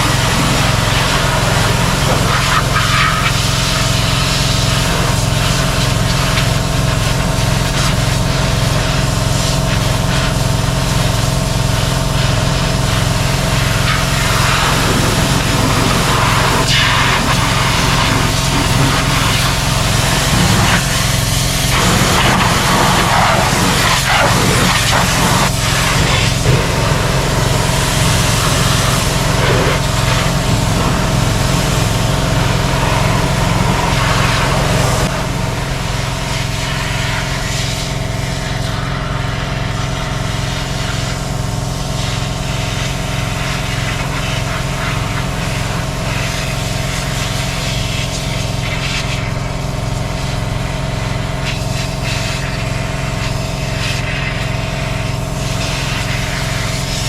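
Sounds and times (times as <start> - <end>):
engine running with low pulse: 0.0 - 57.0.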